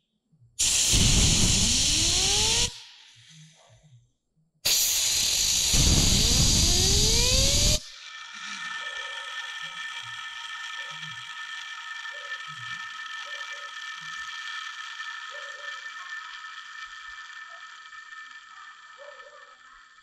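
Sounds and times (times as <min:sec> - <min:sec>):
steady high whine: 0:00.6 - 0:03.3, 0:05.0 - 0:20.0.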